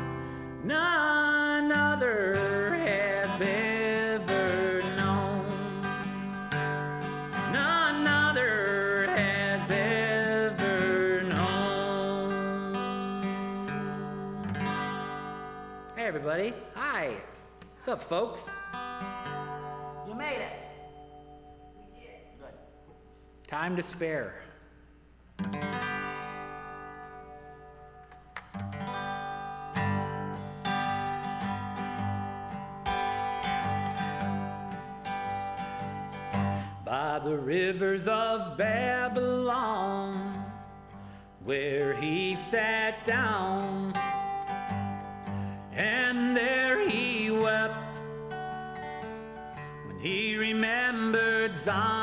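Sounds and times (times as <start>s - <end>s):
acoustic guitar chords: 0.0s - 52.0s.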